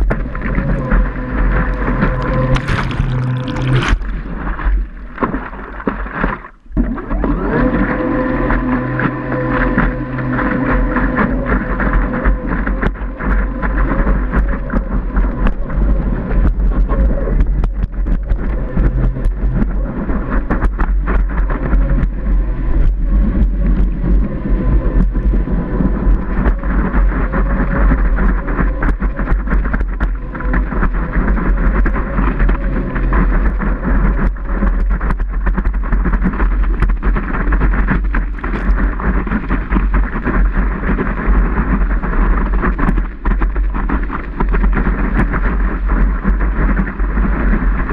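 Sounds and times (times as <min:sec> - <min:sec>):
wind buffeting microphone: 0:00.0 - 0:05.0, 0:06.8 - 0:47.9
faint steady whine: 0:00.0 - 0:47.9
rushing water: 0:00.0 - 0:47.9.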